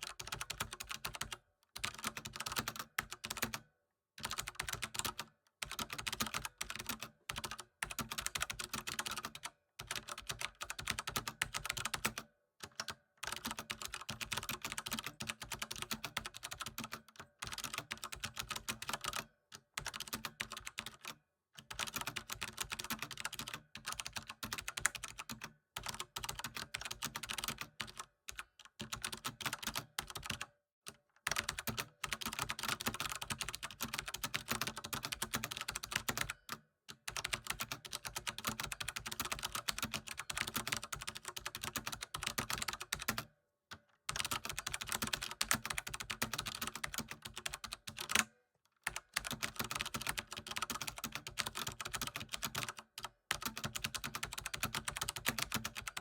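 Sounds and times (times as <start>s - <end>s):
computer keyboard typing: 0.0s - 30.5s, 31.2s - 43.3s, 44.1s - 56.0s.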